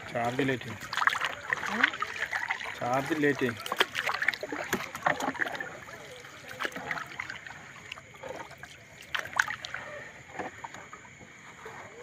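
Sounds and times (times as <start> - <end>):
water trickling off a fishing net: 0.0 - 12.0.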